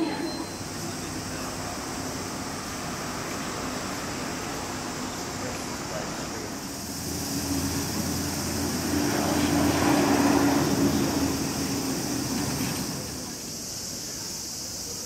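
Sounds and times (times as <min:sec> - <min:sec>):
engine drone passing by: 0:00.6 - 0:13.7.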